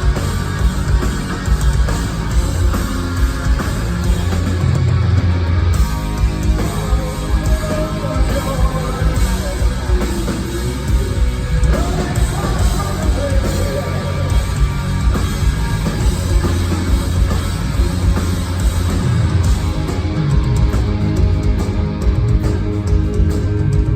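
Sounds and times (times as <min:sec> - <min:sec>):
rock band playing: 0:00.0 - 0:23.9.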